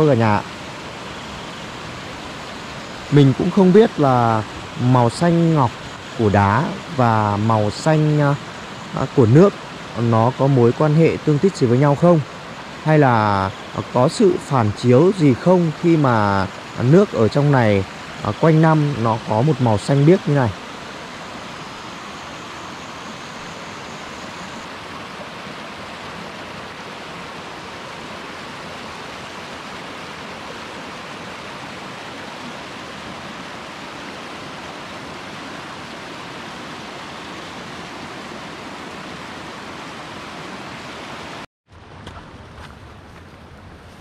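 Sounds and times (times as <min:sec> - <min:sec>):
stream water over rocks: 0:00.0 - 0:44.0.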